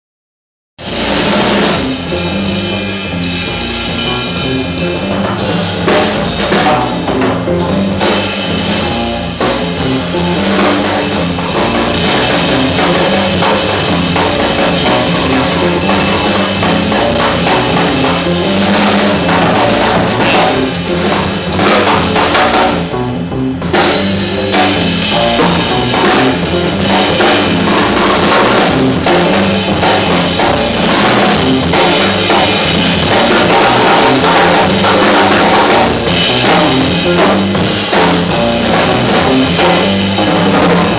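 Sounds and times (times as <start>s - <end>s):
drum kit: 0.8s - 40.9s
electric guitar: 0.8s - 40.9s
upright double bass: 0.8s - 40.9s.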